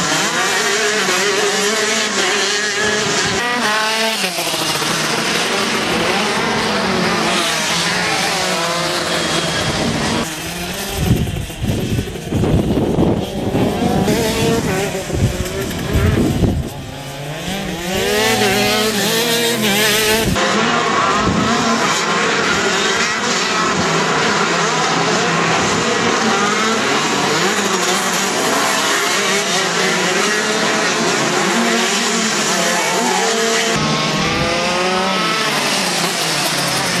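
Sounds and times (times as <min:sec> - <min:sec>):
kart engines revving: 0:00.0 - 0:37.0.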